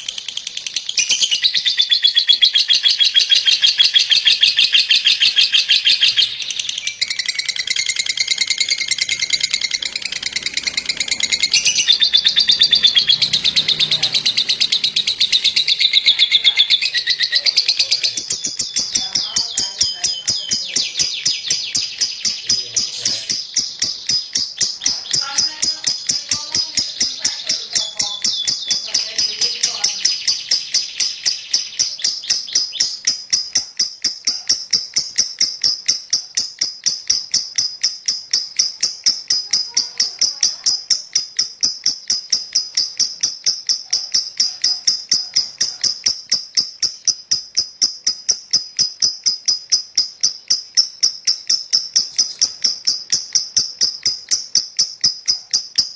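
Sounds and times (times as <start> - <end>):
dense chirping: 0.0 - 55.9
lovebird chirping: 0.0 - 55.9.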